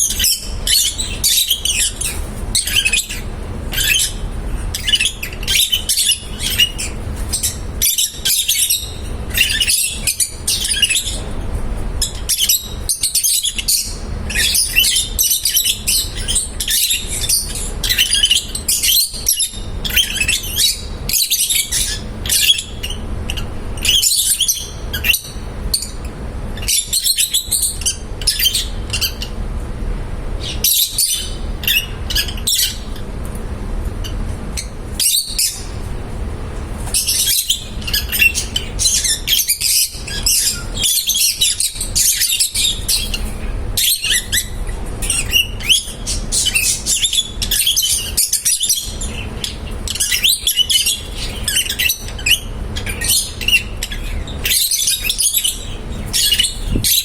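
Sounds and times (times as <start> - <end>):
parrots chirping and chattering: 0.0 - 57.0.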